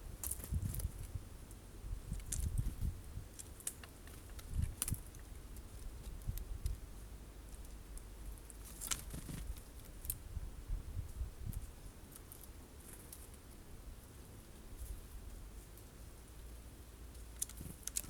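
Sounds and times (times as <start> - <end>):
birds pecking seeds: 0.0 - 10.3, 11.5 - 18.0.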